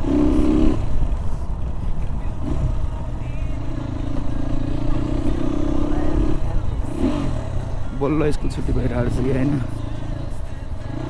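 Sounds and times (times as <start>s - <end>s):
dirt bike engine rumble: 0.0s - 11.0s.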